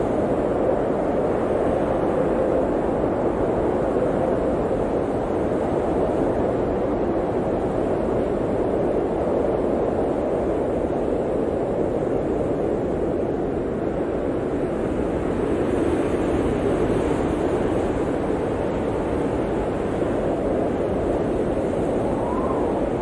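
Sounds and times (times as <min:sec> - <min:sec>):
blizzard wind blowing: 0:00.0 - 0:23.0
faint wind whistle: 0:00.0 - 0:23.0.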